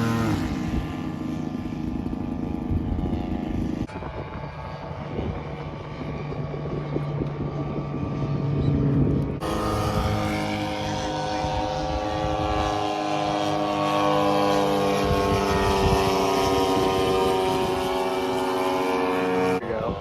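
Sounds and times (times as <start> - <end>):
model airplane engine buzzing: 0.0 - 20.0.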